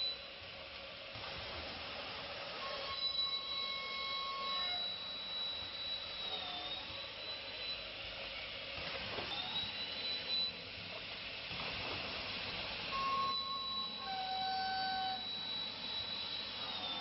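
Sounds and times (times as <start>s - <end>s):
thin high machine whine: 0.0s - 17.0s.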